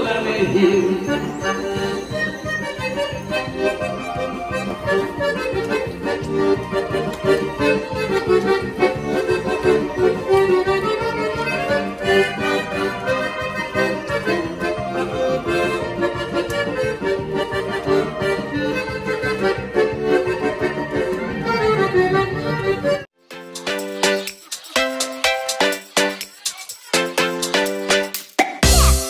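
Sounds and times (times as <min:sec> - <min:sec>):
accordion playing folk melody: 0:00.0 - 0:29.0.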